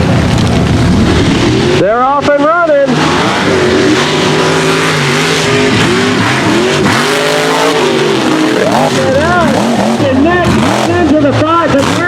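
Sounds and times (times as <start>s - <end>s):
truck engines revving hard: 0.0s - 12.0s.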